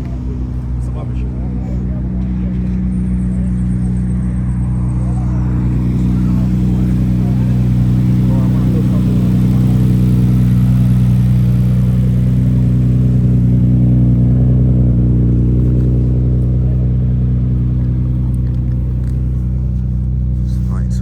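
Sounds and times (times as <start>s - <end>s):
car engine running steadily: 0.0s - 21.0s.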